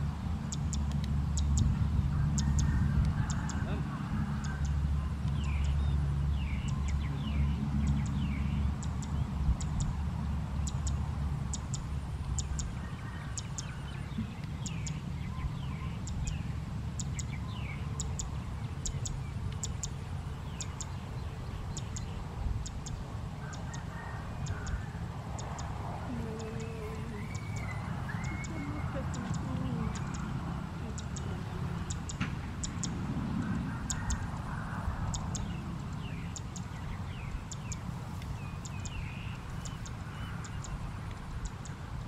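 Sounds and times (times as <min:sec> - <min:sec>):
birds chirping: 0:00.0 - 0:42.0
low steady rumble: 0:00.0 - 0:42.0.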